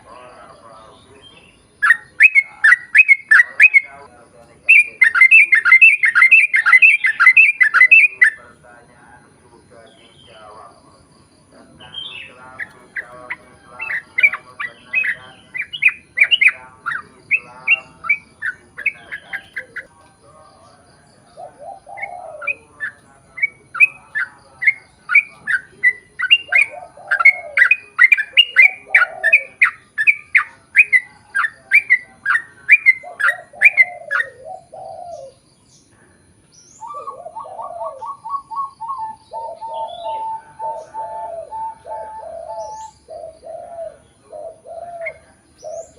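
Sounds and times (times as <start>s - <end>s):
bulbul singing rapid song: 0.0s - 45.9s.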